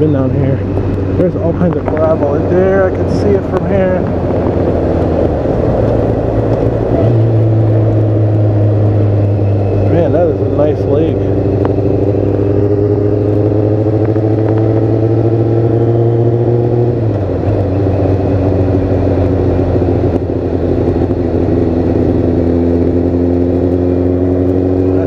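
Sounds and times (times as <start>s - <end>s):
motorcycle engine running: 0.0s - 25.0s
wind rush: 0.0s - 25.0s.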